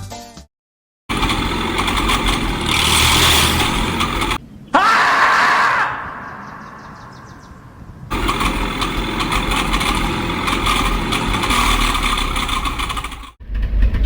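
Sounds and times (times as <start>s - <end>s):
tractor engine rumbling: 1.1s - 14.0s.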